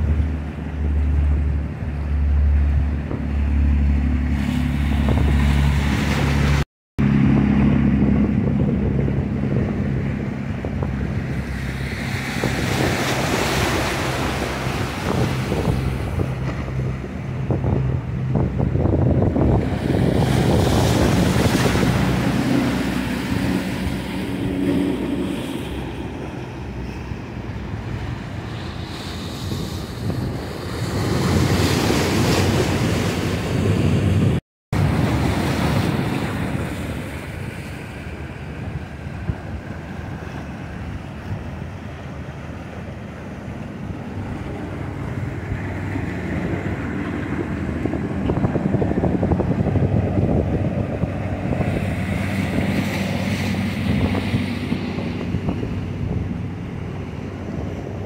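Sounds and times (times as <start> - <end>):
motorboat engines humming: 0.0 - 58.0
waves washing: 0.0 - 58.0
wind buffeting microphone: 0.0 - 58.0.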